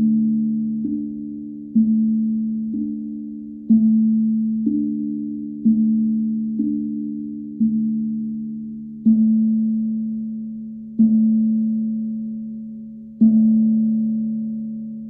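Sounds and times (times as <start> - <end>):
tongue drum and singing bowl strikes: 0.0 - 15.0.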